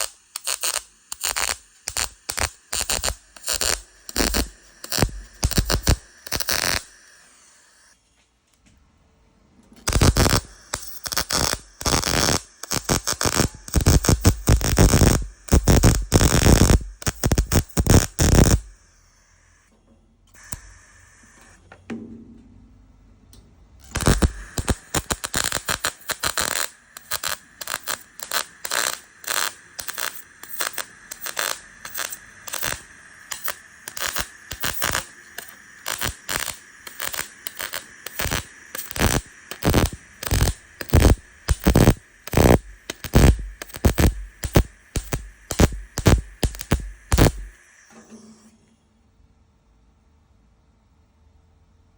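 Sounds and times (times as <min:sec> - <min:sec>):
welder crackling bursts: 0:00.0 - 0:08.0, 0:09.7 - 0:19.7, 0:20.3 - 0:21.6, 0:23.8 - 0:48.0.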